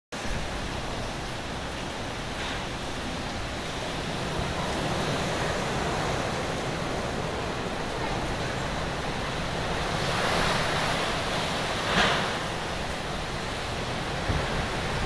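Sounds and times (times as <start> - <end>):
strong wind with rain: 0.2 - 15.0.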